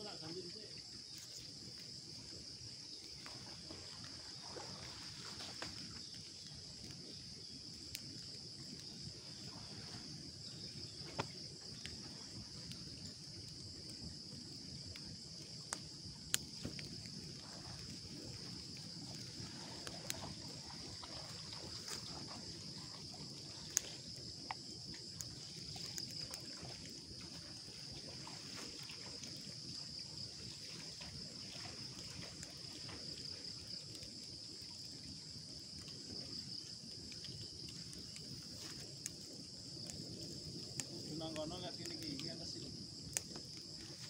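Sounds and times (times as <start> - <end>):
campfire popping and crackling: 0.0 - 44.0
crickets chirping: 0.0 - 44.0.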